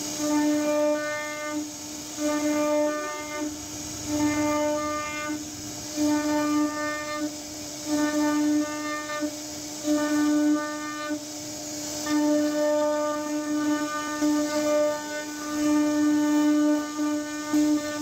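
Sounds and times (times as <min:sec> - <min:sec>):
constant hiss: 0:00.0 - 0:18.0.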